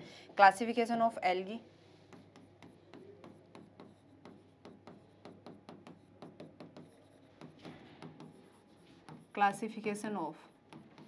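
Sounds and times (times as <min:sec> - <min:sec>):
writing taps and scratches on board: 0:02.0 - 0:11.0.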